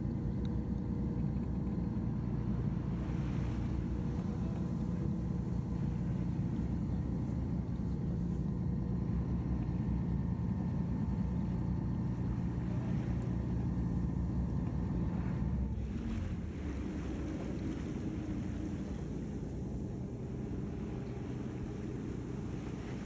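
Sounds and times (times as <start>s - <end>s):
boat engine droning: 0.0s - 23.0s
water washing along hull: 0.0s - 23.0s.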